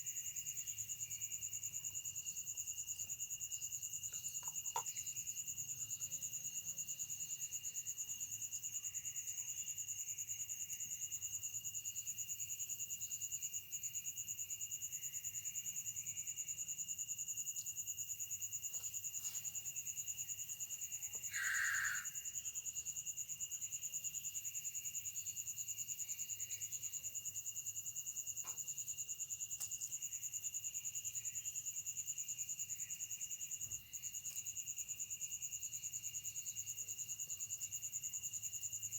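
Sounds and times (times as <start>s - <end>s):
crickets and insects trilling: 0.0s - 38.9s.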